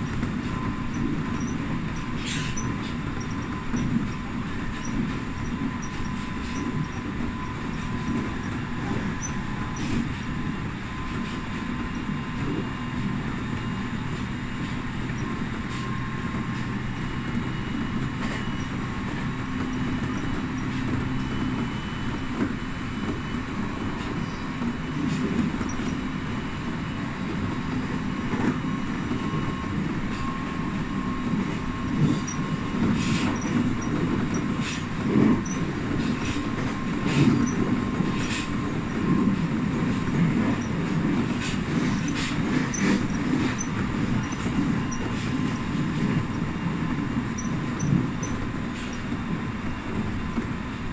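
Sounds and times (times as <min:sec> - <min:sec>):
constant hum: 0:00.0 - 0:50.9
train wheels rumbling on track: 0:00.0 - 0:50.9.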